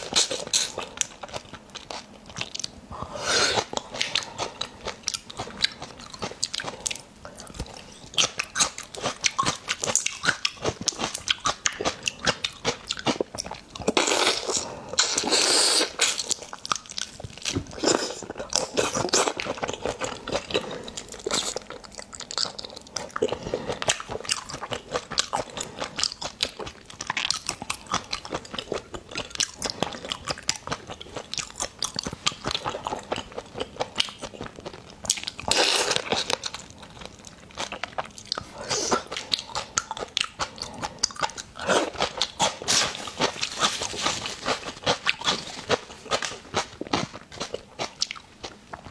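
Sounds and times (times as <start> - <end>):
crunching and wet chewing: 0.0 - 48.9.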